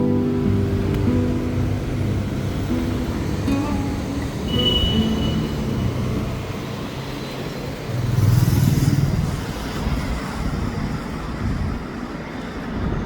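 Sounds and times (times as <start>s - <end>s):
vehicle passing: 0.0s - 10.5s
street traffic: 0.0s - 13.0s.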